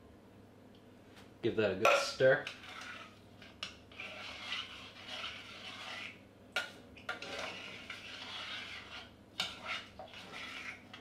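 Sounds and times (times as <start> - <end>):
spoon scraping a pot: 1.9 - 11.0.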